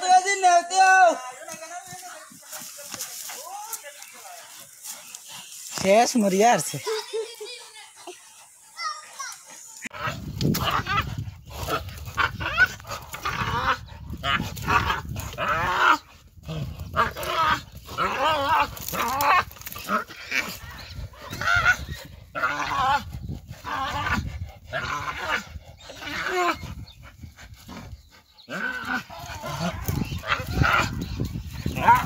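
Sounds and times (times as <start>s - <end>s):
animals screaming and snarling: 1.5s - 32.0s.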